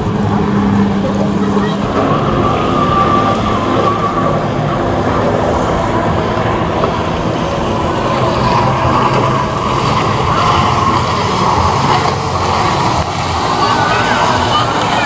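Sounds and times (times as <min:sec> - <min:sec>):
boat engines running: 0:00.0 - 0:15.0.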